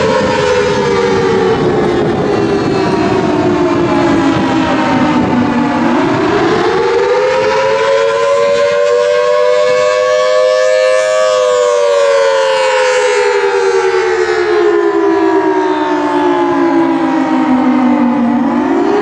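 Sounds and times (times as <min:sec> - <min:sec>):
dual-tone warning siren wailing: 0:00.0 - 0:19.0.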